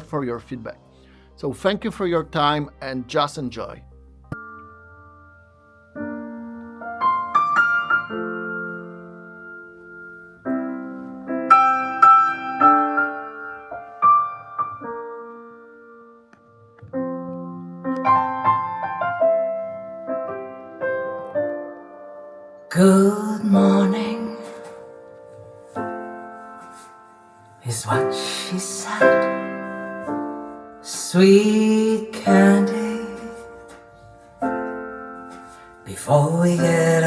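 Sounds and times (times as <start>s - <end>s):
piano over loudspeaker: 0.0s - 37.0s.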